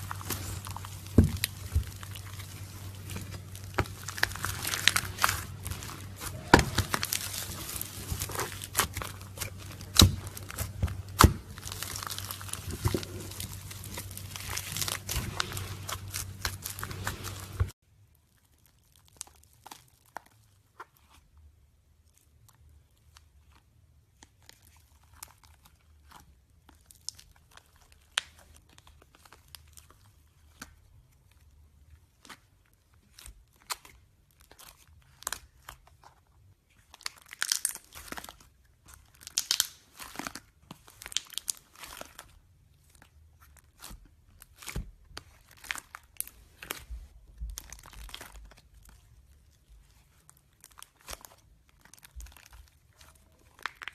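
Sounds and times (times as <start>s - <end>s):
slime crackling and popping: 0.0s - 17.7s, 18.3s - 20.5s, 24.2s - 30.8s, 32.2s - 53.9s.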